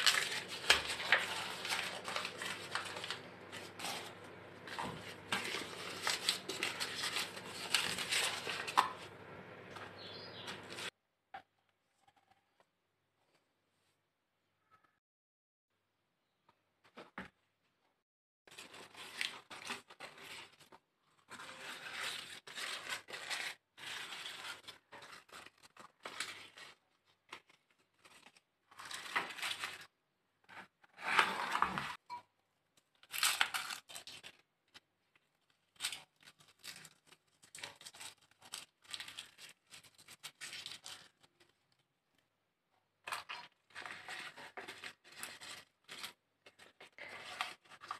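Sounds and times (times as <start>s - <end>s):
paper crinkling and rustling: 0.0s - 10.9s, 18.5s - 32.0s, 32.9s - 42.3s, 43.1s - 47.9s.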